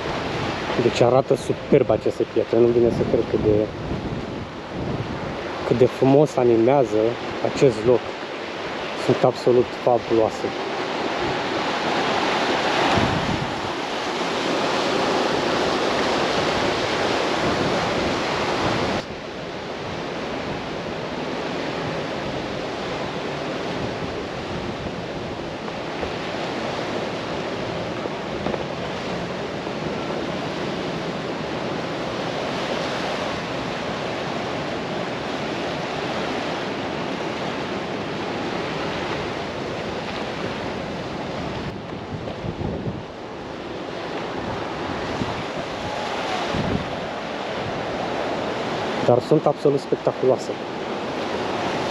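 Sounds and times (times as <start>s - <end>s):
wind buffeting microphone: 0.0s - 49.1s
sea surf washing over rocks: 0.0s - 51.9s.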